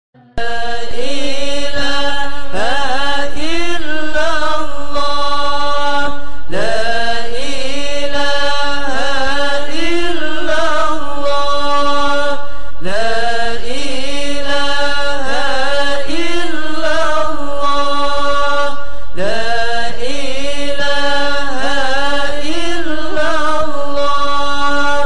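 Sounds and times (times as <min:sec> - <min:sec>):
congregation chanting in unison: 0:00.4 - 0:25.0.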